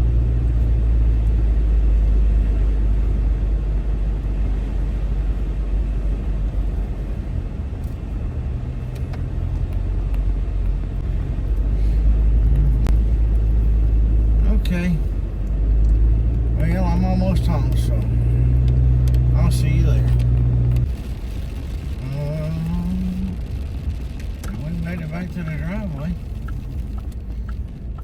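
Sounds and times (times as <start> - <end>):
car engine rumble: 0.0 - 28.0
tyres on wet road: 0.0 - 28.0.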